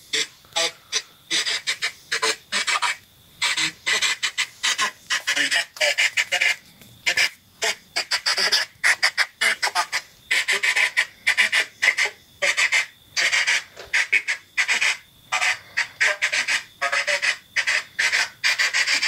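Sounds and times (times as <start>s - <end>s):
radio static bursts: 0.0s - 19.0s.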